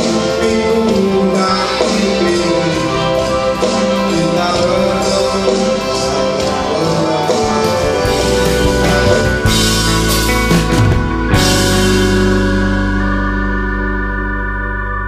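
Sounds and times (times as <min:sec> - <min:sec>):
live band music: 0:00.0 - 0:14.8.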